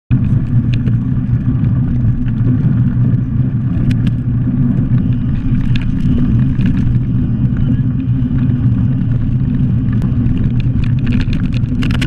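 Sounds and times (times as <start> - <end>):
bicycle tyres rumbling on dirt: 0.1 - 12.0
bike clicks and rattles: 0.1 - 12.0
wind on microphone: 0.1 - 12.0.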